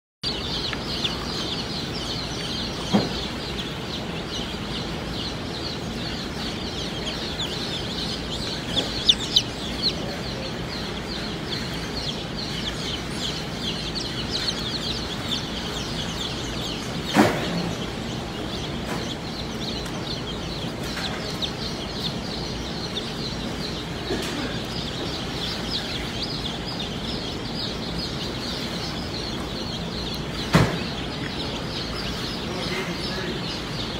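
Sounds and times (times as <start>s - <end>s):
chicks peeping: 0.2s - 33.9s.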